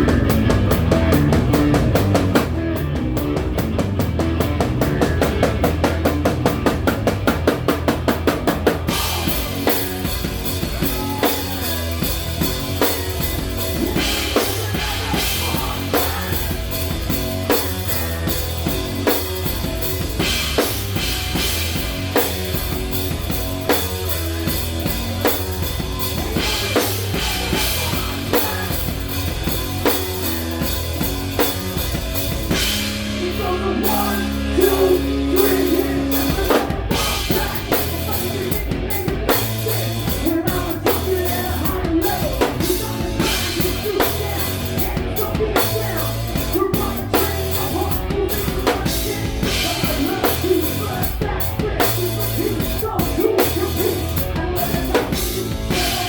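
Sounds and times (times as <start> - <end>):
drum kit beat: 0.0 - 56.0
rock band playing: 0.0 - 56.0.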